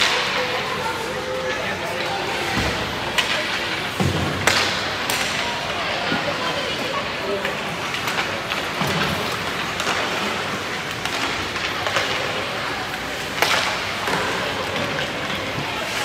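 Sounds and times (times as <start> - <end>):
pucks cracking off sticks: 0.0 - 16.0
skating hiss and hall noise: 0.0 - 16.0.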